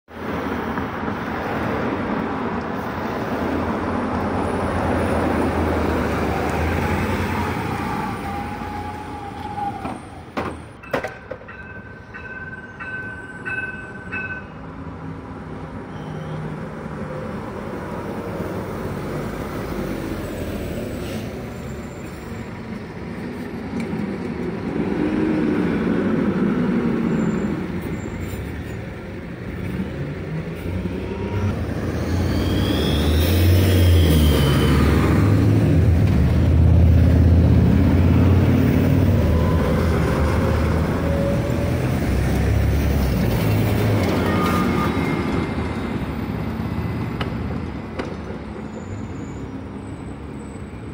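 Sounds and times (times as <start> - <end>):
buses idling and pulling away: 0.1 - 50.9.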